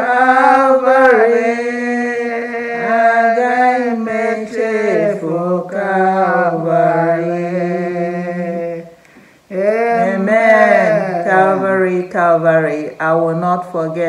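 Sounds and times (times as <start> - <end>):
women singing a hymn: 0.0 - 14.0.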